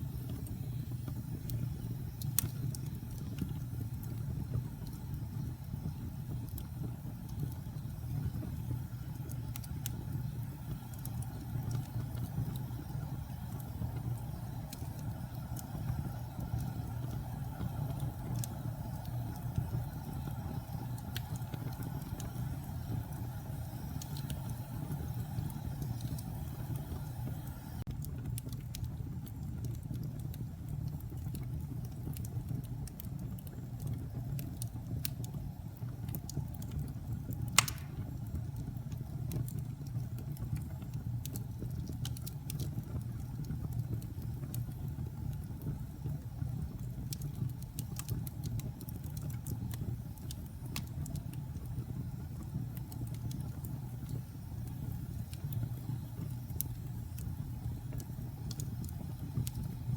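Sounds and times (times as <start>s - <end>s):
fire rumbling: 0.0s - 59.9s
wood fire crackles and pops: 0.0s - 59.9s.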